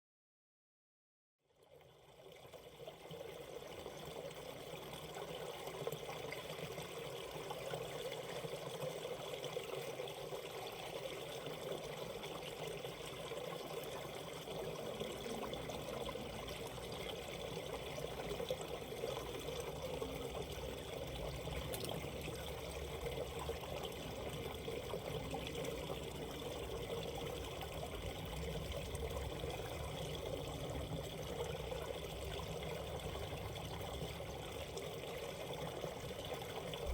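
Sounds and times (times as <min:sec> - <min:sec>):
stream flowing over rocks: 0:02.0 - 0:36.9.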